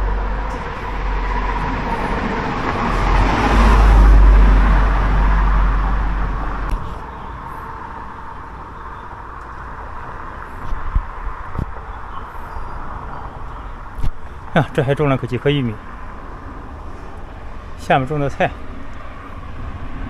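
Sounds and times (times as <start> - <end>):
road noise: 0.0 - 20.0
wind rumbling on microphone: 0.0 - 20.0.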